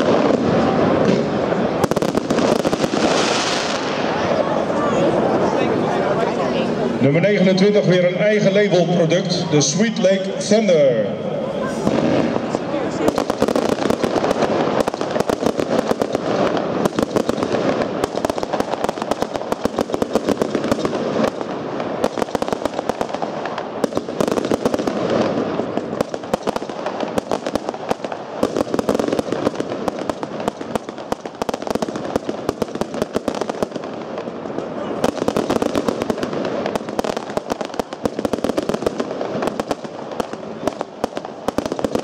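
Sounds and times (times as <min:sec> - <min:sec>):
fireworks launching and cracking: 0:00.0 - 0:10.8, 0:11.5 - 0:42.0.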